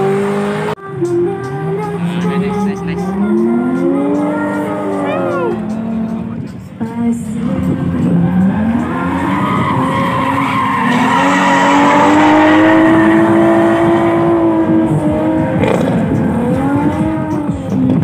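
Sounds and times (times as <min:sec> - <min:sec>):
car engine revving: 0:00.0 - 0:00.8, 0:01.5 - 0:18.0.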